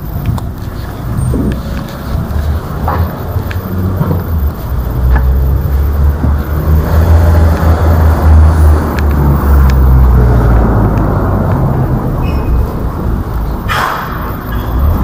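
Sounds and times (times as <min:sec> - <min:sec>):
passing cars rushing: 0:00.0 - 0:15.0
street traffic rumble: 0:00.0 - 0:15.0.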